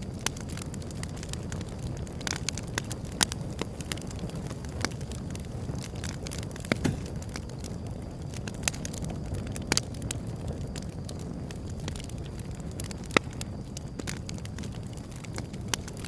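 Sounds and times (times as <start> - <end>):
flames rumbling: 0.0 - 16.0
wood fire crackling: 0.0 - 16.0.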